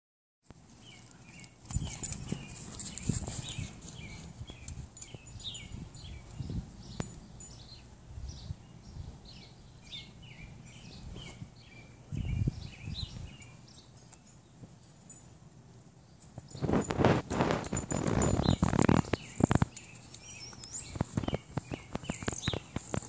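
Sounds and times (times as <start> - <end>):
small birds chirping: 0.5 - 23.0.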